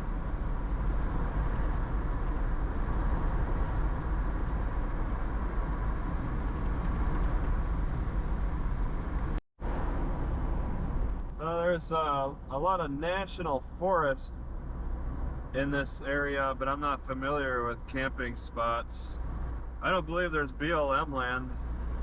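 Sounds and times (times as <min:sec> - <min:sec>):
car cabin road and engine noise: 0:00.0 - 0:22.0.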